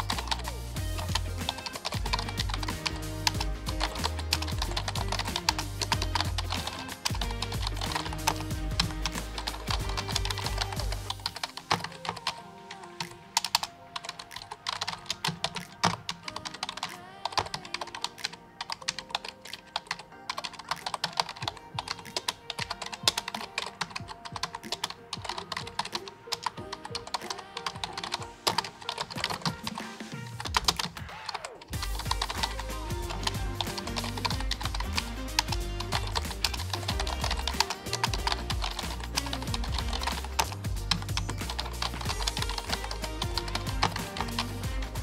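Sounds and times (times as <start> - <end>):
typing on a computer keyboard: 0.0 - 12.4, 13.0 - 45.0
background music: 0.0 - 45.0.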